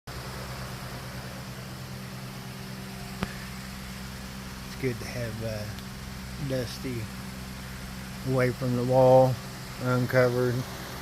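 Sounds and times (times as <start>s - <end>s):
low machine hum: 0.1s - 11.0s
even hiss: 0.3s - 11.0s.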